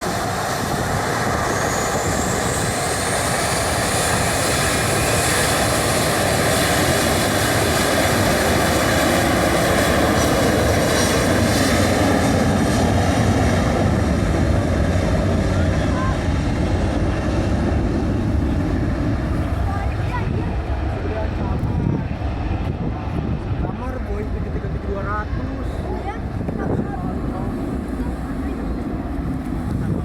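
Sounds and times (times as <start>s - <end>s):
airplane engines at takeoff power: 0.0s - 30.0s.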